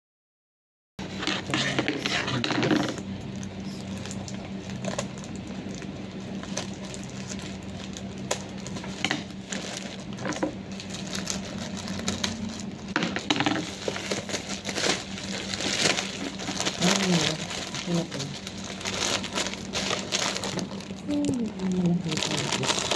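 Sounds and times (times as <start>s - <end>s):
packaging clicks and rustles: 1.0s - 22.9s
steady low hum: 1.0s - 22.9s.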